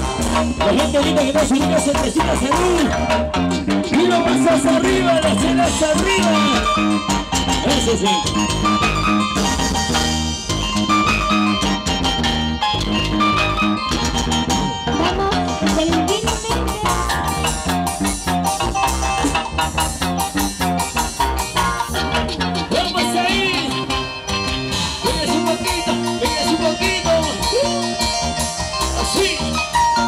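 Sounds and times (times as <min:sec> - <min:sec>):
live folk band playing: 0:00.0 - 0:30.0.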